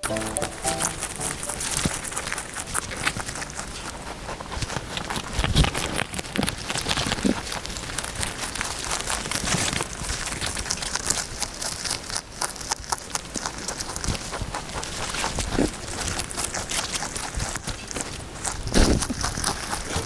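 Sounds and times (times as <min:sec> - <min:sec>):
rabbit rustling and scratching: 0:00.4 - 0:20.0.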